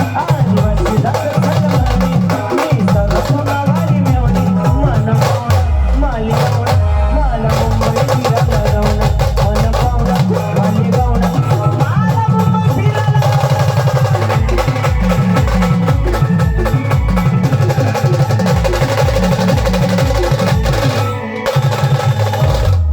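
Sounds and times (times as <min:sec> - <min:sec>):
fast dense drumming: 0:00.0 - 0:22.9.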